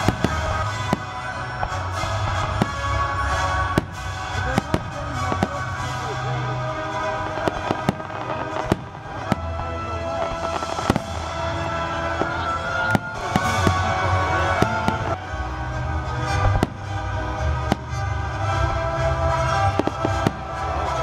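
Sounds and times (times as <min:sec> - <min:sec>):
fireworks bangs: 0:00.0 - 0:21.0
fireworks crackle: 0:00.0 - 0:21.0
music with steady bass: 0:00.0 - 0:21.0.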